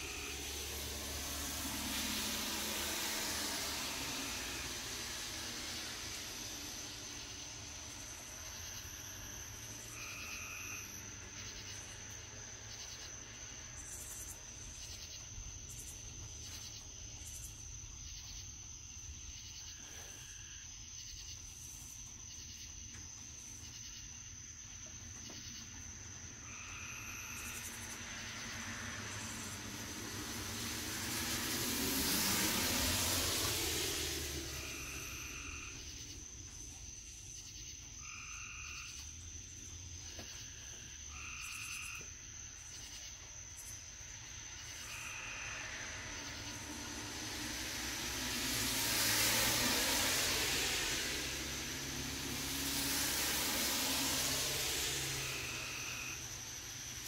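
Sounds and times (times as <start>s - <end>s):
frogs calling: 0.0s - 18.4s, 24.8s - 39.3s, 39.9s - 57.0s
car driving past: 0.0s - 21.7s, 22.4s - 57.0s
high-pitched insect trill: 0.0s - 57.0s.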